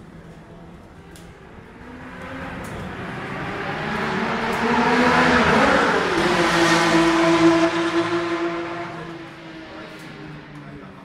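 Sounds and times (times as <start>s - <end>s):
racing car engine revving: 1.6s - 11.0s.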